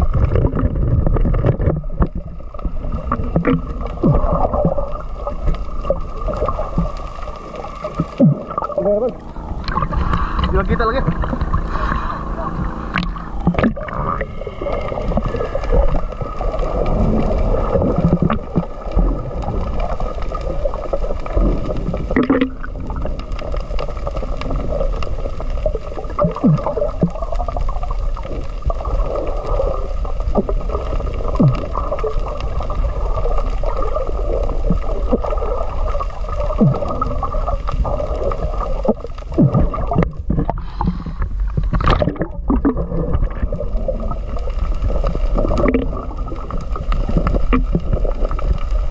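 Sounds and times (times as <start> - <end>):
muffled underwater rushing: 0.0 - 48.9
underwater knocks and gurgles: 0.0 - 48.9.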